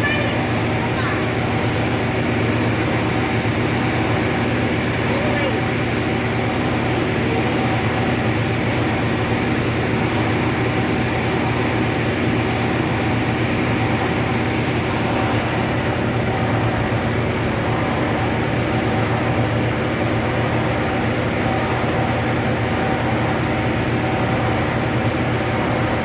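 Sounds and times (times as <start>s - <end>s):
machine mechanical hum: 0.0s - 26.0s.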